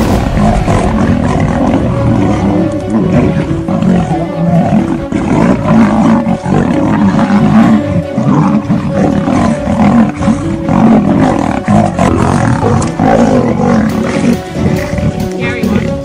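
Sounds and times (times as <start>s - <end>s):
lion and tiger roaring: 0.0s - 16.0s.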